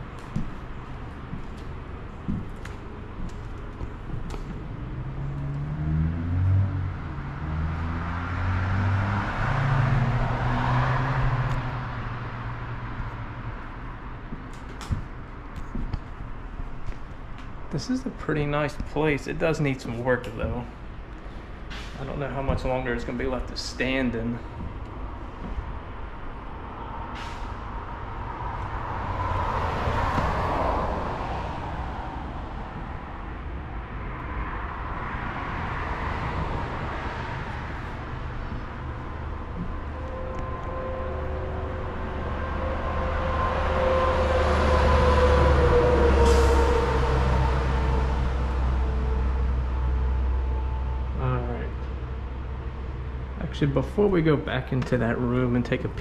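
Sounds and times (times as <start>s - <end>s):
low rumble of traffic: 0.0s - 56.0s
vehicle passing on road: 0.0s - 56.0s.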